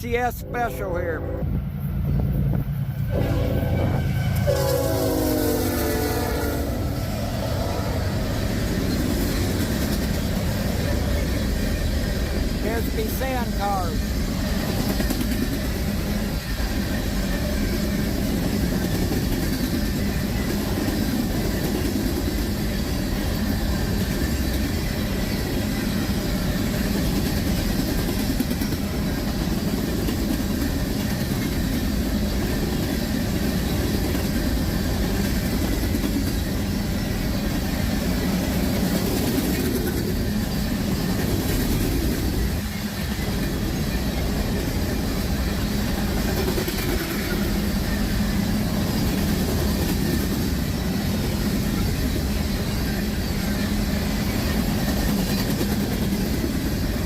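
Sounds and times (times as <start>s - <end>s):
train wheels rumbling on rails: 0.1s - 57.0s.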